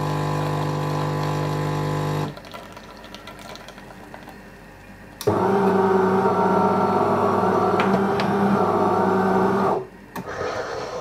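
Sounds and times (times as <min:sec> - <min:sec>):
coffee machine humming: 0:00.0 - 0:11.0.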